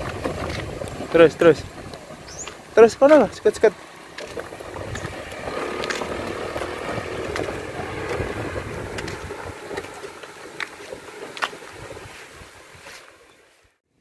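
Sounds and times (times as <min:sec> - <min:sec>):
wooden cart rumbling and rattling: 0:00.0 - 0:13.2.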